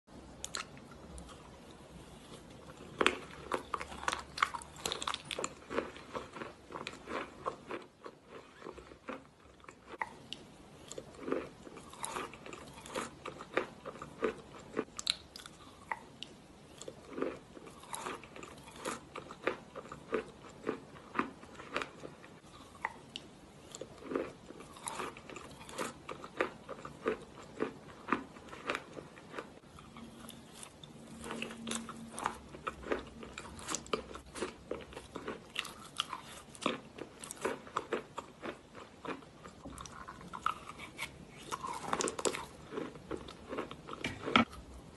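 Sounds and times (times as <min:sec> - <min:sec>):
chalk crunched and chewed: 0:02.3 - 0:44.7.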